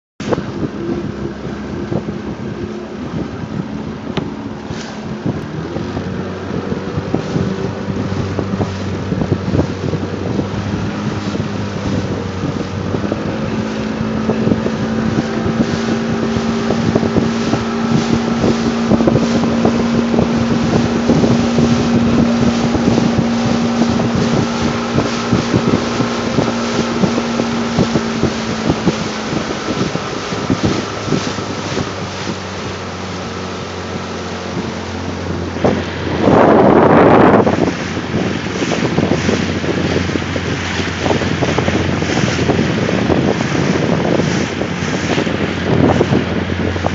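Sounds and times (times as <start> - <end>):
motorboat engine running: 0.0 - 46.9
hull slapping on waves: 0.2 - 46.9
wind on microphone: 0.2 - 46.9.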